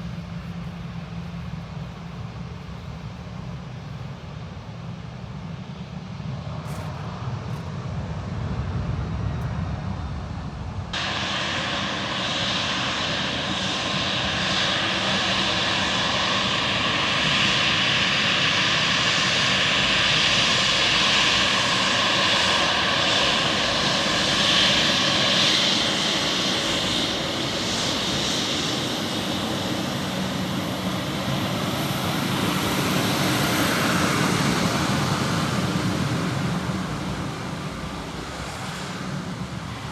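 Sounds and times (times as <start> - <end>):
jet engines at takeoff power: 0.0 - 39.9.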